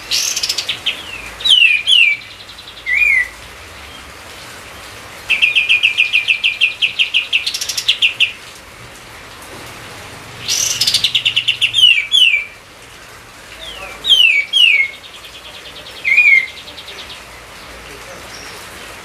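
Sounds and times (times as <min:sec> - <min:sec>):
songbird singing: 0:00.0 - 0:08.6, 0:10.4 - 0:19.0.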